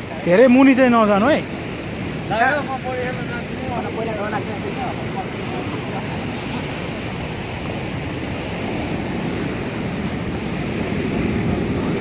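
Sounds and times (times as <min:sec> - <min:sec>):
waves breaking on shore: 0:00.0 - 0:12.0.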